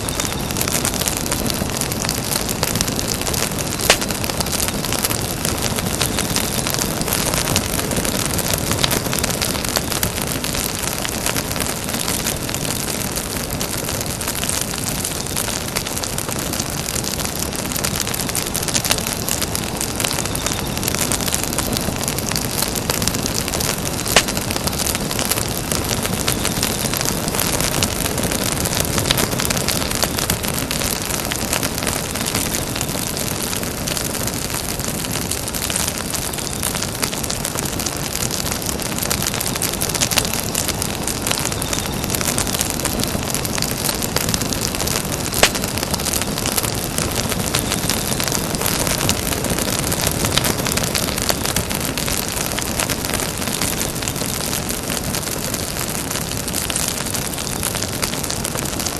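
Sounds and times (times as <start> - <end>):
campfire crackling: 0.0 - 58.9
flame rushing: 0.0 - 58.9.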